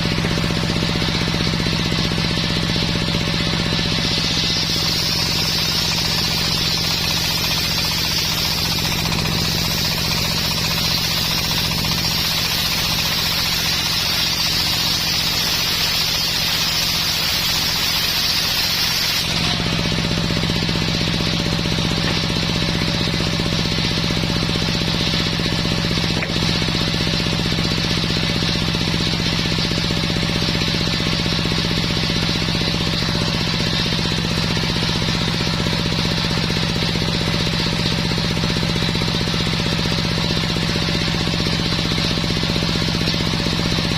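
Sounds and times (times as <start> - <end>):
saw blade hissing through wood: 0.0 - 43.9
sawmill engine drone: 0.0 - 43.9.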